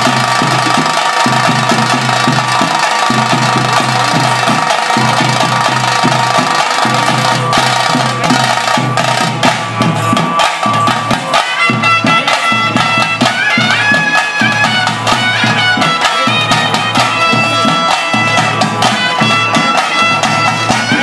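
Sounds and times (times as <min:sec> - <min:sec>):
drum beats: 0:00.0 - 0:21.0
flute melody: 0:00.0 - 0:21.0.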